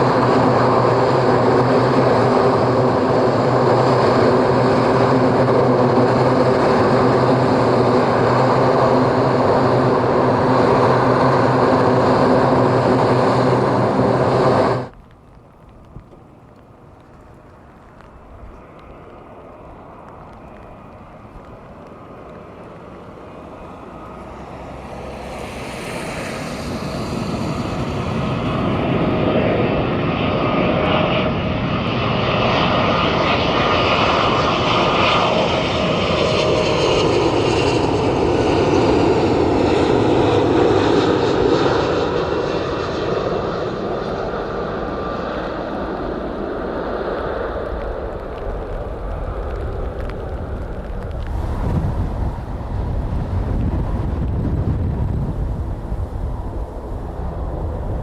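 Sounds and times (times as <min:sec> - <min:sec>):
aircraft engines roaring: 0:00.0 - 0:58.0.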